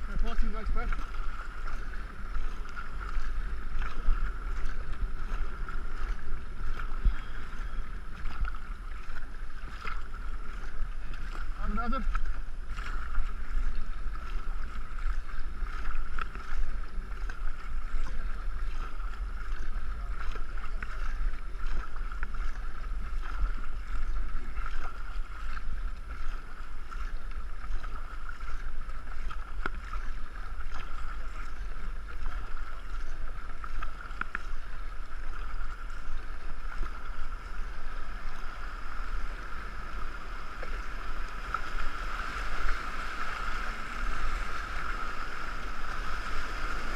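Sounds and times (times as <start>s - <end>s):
water rushing against canoe hull: 0.0s - 46.9s
wind buffeting microphone: 0.0s - 46.9s.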